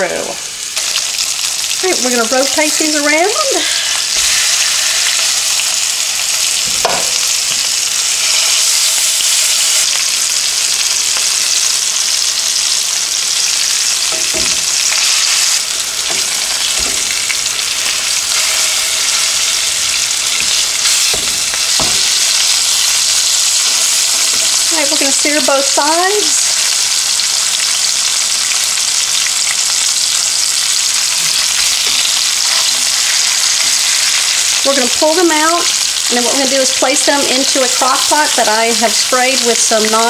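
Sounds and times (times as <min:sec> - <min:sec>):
meat sizzling in oil: 0:00.0 - 0:40.0.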